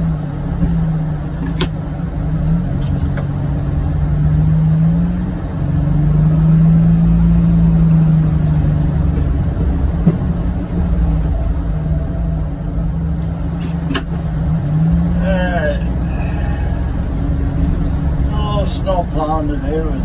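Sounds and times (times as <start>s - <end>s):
utility vehicle engine running: 0.0s - 20.0s.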